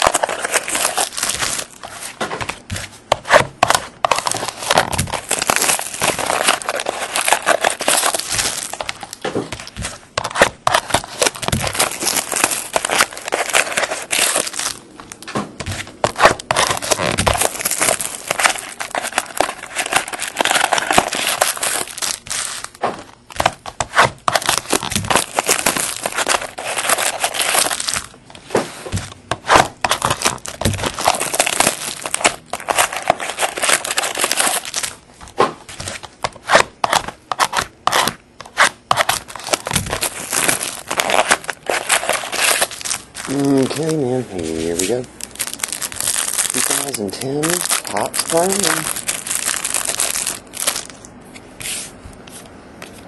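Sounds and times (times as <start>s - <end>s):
plastic wrappers crinkling and tearing: 0.0s - 35.0s, 35.7s - 51.2s.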